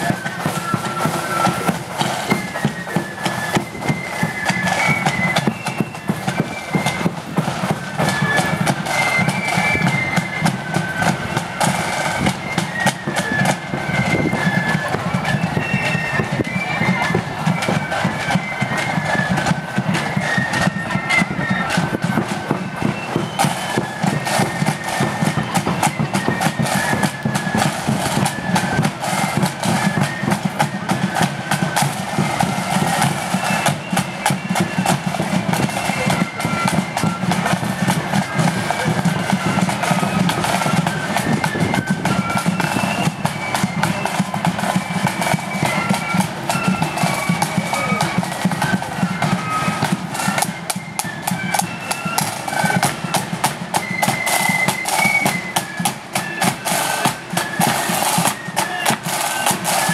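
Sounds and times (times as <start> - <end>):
high melody: 0.0 - 59.9
side drums: 0.0 - 59.9.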